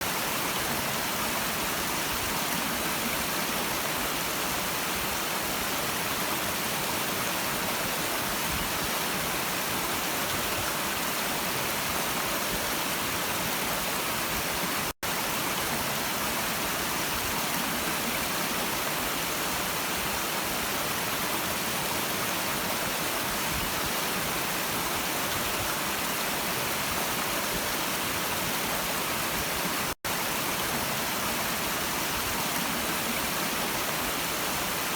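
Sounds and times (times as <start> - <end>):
stream of running water: 0.0 - 34.9.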